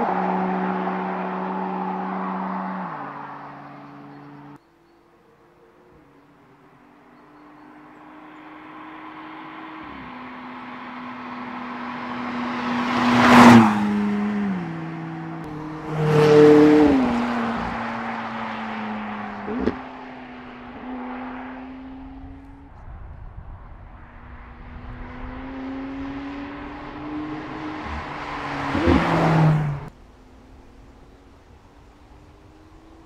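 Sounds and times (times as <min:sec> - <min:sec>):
sports car engine passing by: 0:00.0 - 0:33.0.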